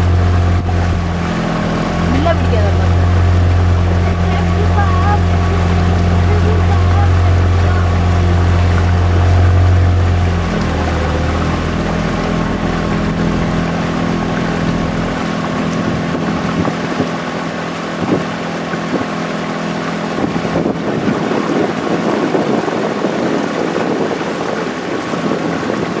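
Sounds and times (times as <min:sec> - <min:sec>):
boat engine humming: 0:00.0 - 0:26.0
water rushing: 0:00.0 - 0:26.0
wind on microphone: 0:00.0 - 0:26.0.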